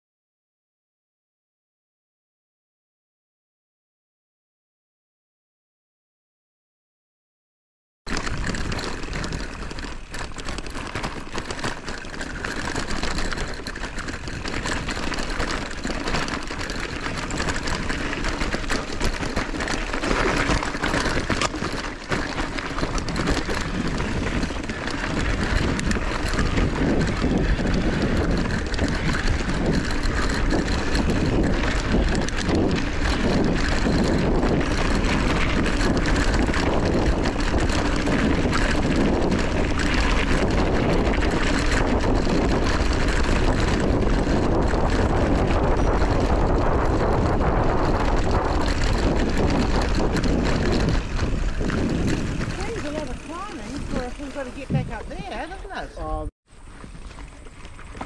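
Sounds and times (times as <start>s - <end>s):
bike rattles and knocks: 8.1s - 58.0s
bike tyre rumble and crunch: 8.1s - 58.0s
wind buffeting microphone: 8.1s - 58.0s.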